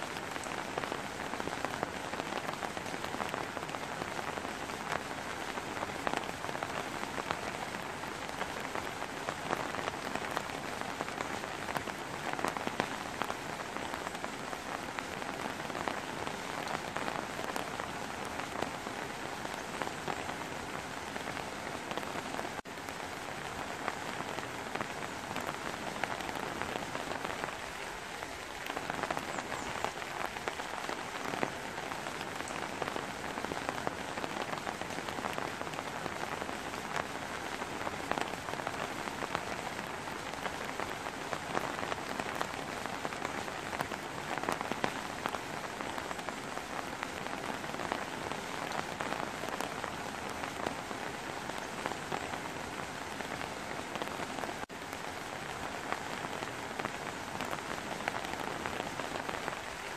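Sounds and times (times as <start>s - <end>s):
rain falling on trees: 0.0s - 59.9s.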